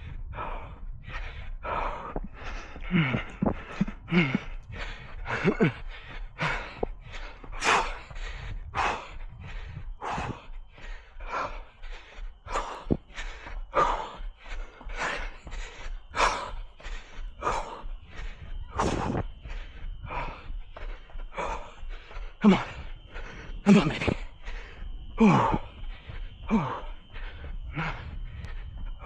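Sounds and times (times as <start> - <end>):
runner breathing hard: 0.0 - 29.0.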